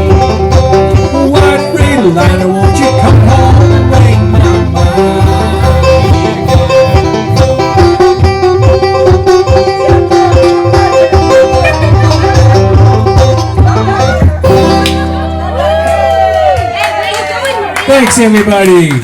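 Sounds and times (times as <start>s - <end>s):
banjo picking quick notes: 0.0s - 16.0s
acoustic guitar: 0.0s - 16.8s.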